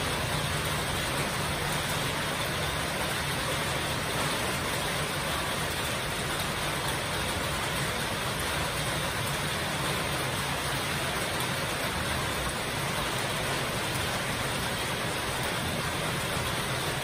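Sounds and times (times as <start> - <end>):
heavy rain on metal roofs: 0.0 - 17.0.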